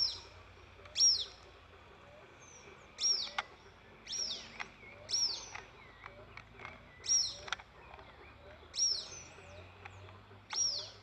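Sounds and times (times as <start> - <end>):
bird chirping: 0.0 - 1.5, 2.3 - 11.0.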